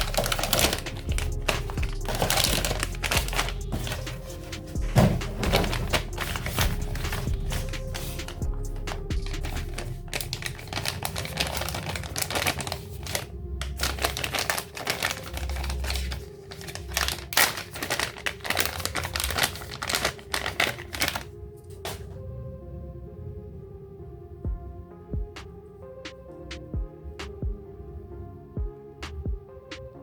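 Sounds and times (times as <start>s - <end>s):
background music: 0.0s - 30.0s.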